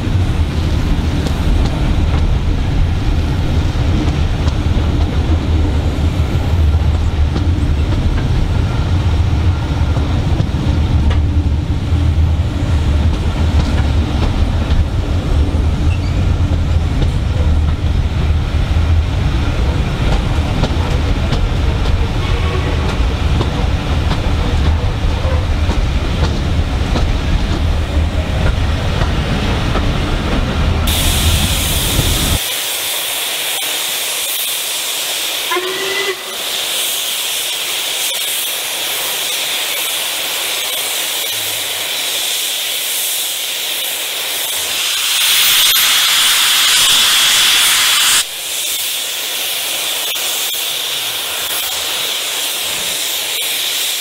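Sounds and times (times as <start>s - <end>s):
moving train rumble: 0.0s - 54.0s
steam hissing: 0.0s - 54.0s.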